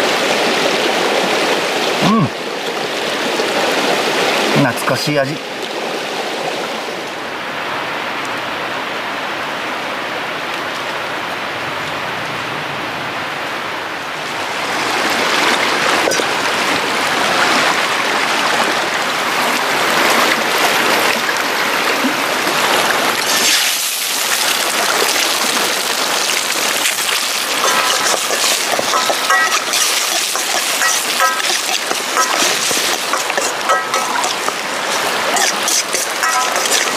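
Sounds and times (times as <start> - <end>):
stream rushing over rocks: 0.0 - 12.0, 13.5 - 36.9.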